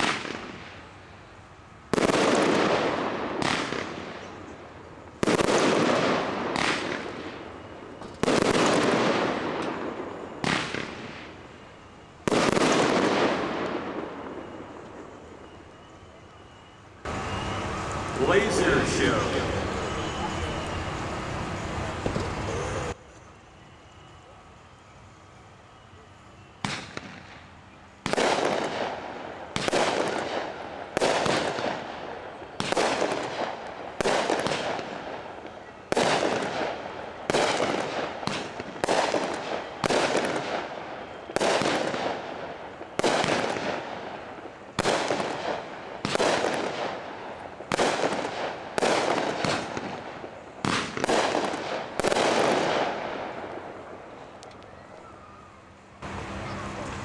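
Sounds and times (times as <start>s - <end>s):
firework bangs: 0.0s - 1.0s, 1.9s - 23.0s, 26.6s - 54.4s.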